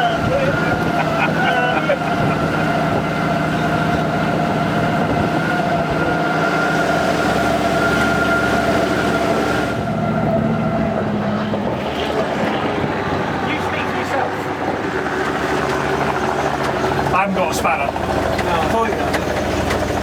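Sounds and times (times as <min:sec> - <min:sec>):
engine and road noise: 0:00.0 - 0:20.0
held whine: 0:00.0 - 0:20.0.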